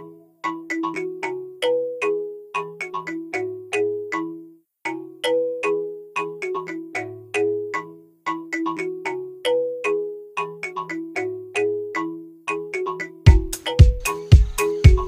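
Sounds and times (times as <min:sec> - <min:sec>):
melody of struck notes: 0:00.0 - 0:15.0.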